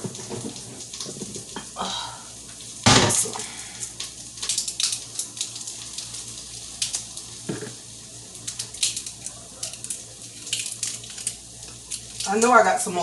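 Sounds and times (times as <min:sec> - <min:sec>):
running tap hiss: 0:00.0 - 0:13.0.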